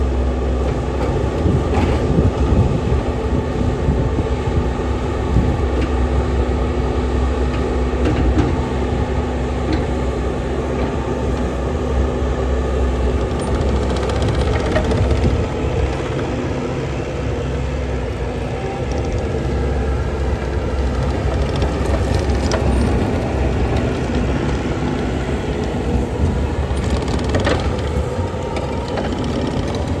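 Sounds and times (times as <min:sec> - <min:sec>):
loader diesel engine running: 0:00.0 - 0:30.0.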